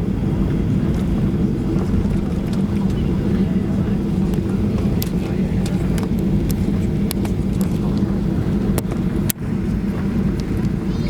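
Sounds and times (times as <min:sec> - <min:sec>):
low rumble of jet engines: 0:00.0 - 0:11.0
clicks and rattles in cabin: 0:00.5 - 0:10.8.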